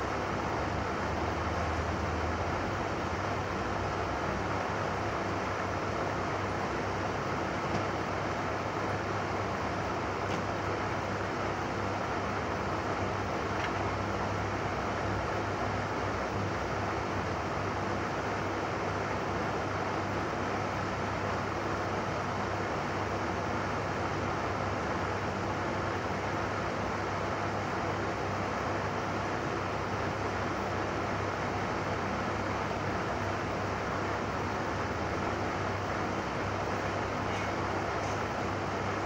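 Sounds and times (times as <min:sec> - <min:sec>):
steady background noise: 0:00.0 - 0:39.0.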